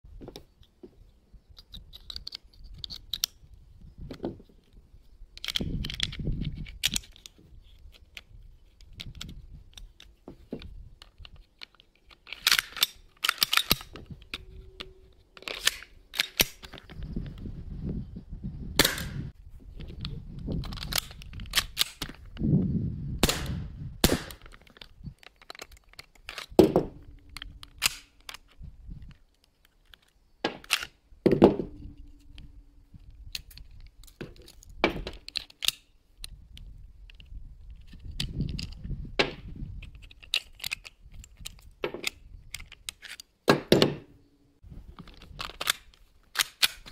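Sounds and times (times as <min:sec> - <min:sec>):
pistol parts clicking and snapping: 0:01.5 - 0:03.5, 0:04.1 - 0:17.1, 0:18.8 - 0:22.4, 0:23.2 - 0:31.0, 0:31.6 - 0:44.1, 0:45.0 - 0:46.9.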